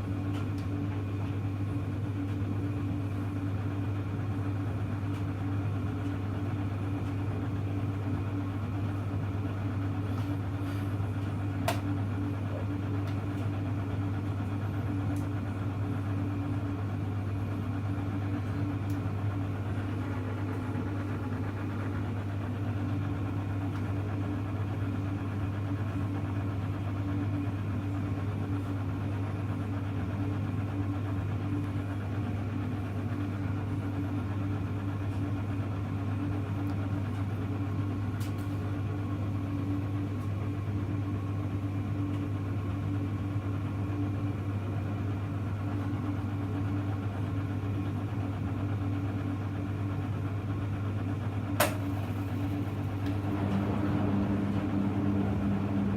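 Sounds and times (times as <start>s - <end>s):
washing machine mains hum: 0.0s - 55.9s.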